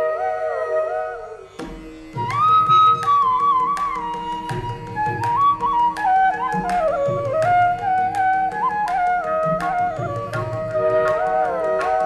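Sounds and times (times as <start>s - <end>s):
bamboo flute melody: 0.0s - 12.0s.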